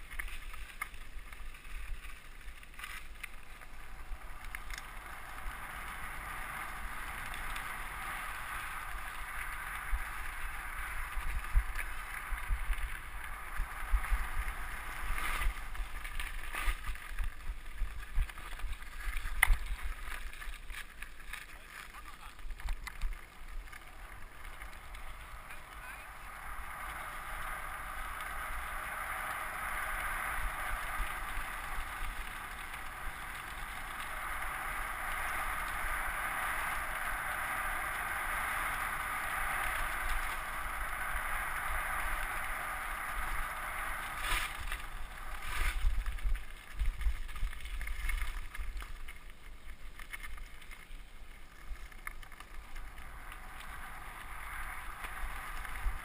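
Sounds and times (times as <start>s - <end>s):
tyres rumbling on gravel: 0.0s - 56.0s.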